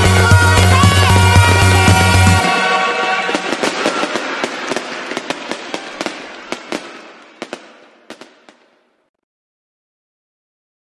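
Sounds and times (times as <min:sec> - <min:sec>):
fireworks crackling and popping: 0:00.0 - 0:09.2.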